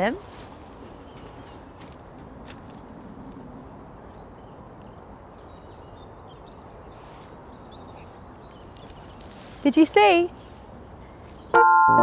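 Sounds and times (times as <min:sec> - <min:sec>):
low outdoor background noise: 0:00.0 - 0:11.6.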